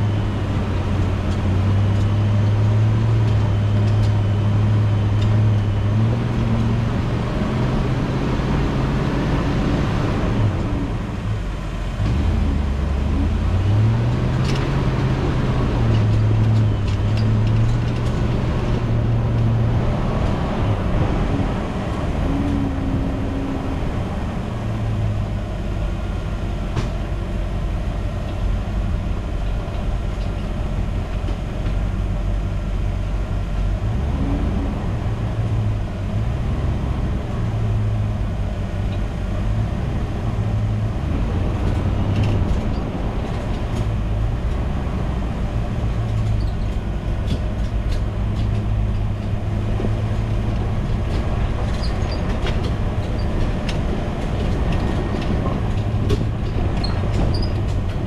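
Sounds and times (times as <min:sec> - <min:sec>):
off-road vehicle engine revving: 0:00.0 - 0:27.0, 0:30.6 - 0:58.0.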